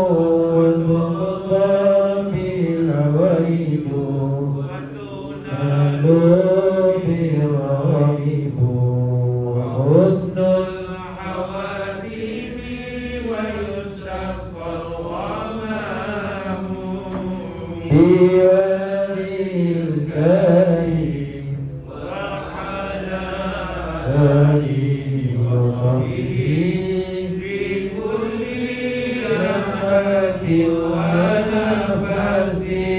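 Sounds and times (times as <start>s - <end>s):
men chanting devotional recitation: 0.0s - 32.9s.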